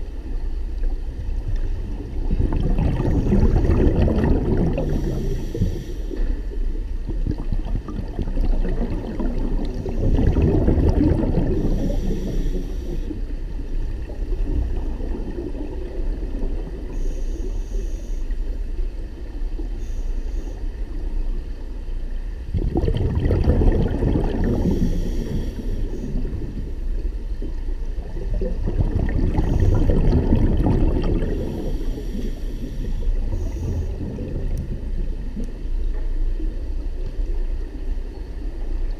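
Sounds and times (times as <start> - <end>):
steady low rumble: 0.0 - 38.9
muffled underwater bubbling: 0.9 - 20.8, 22.3 - 38.9.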